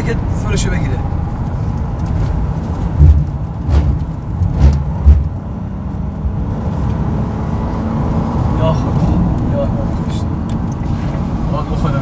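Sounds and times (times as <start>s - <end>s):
car engine while driving: 0.0s - 12.0s
road noise: 0.0s - 12.0s.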